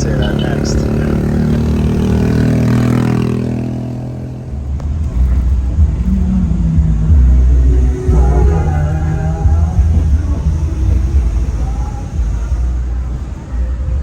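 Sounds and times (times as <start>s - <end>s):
car engine driving: 0.0s - 14.0s
low rumbling with uneven thumps: 0.0s - 14.0s.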